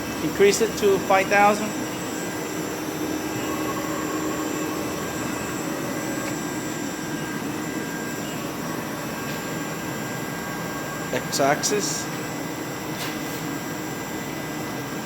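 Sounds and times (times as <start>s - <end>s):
mill spindle whine: 0.0s - 15.0s.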